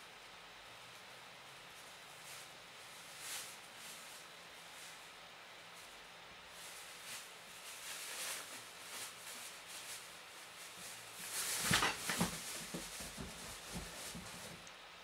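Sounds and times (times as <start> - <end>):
rustling and scraping: 1.7 - 14.7.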